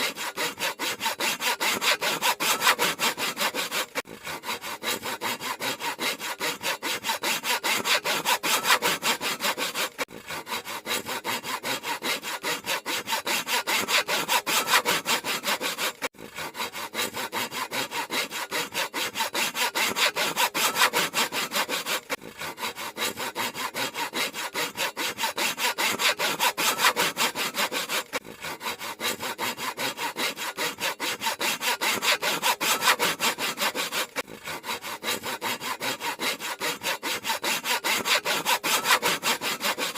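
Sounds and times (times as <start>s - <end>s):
handsaw cutting through wood: 0.0s - 39.9s.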